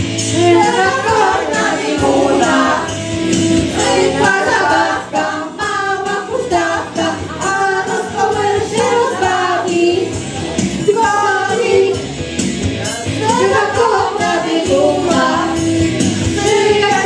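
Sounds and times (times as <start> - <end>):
group singing a song: 0.0 - 12.2, 12.8 - 17.0
women singing into microphones: 0.3 - 3.0, 3.6 - 10.2, 10.8 - 12.1, 13.1 - 17.0.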